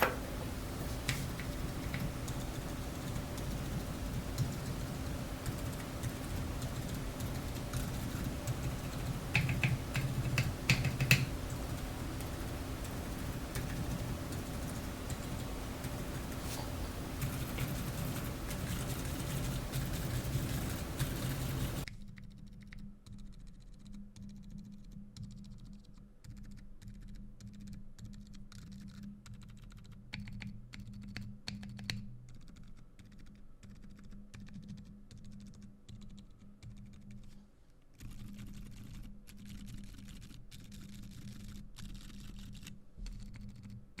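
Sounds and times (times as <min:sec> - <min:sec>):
soft mechanical keyboard keystrokes: 0:01.0 - 0:16.6, 0:22.6 - 0:37.3, 0:37.9 - 0:44.0.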